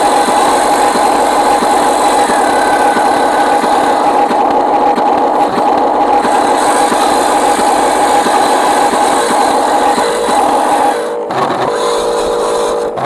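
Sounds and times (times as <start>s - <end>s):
small electric motor whine: 0.0s - 13.0s.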